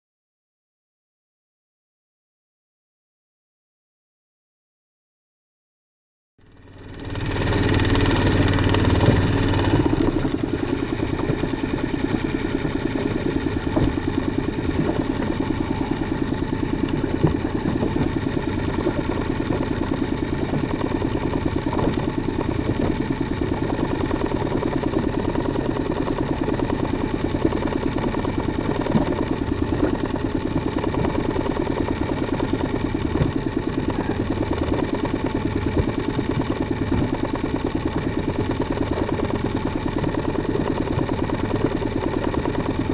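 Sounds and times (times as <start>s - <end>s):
outboard motor idling: 6.4s - 42.9s.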